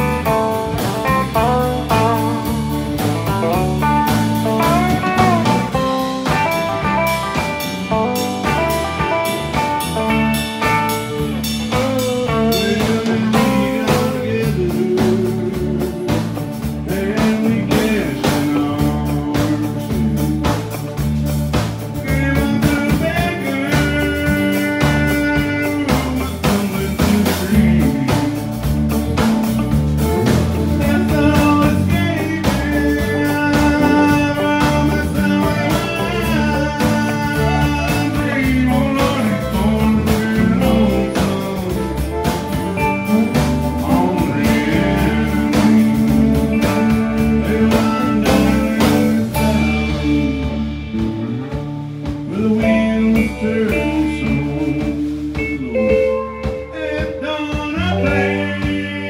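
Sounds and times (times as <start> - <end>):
bass: 0.0 - 59.0
steady drum beat: 0.0 - 59.0.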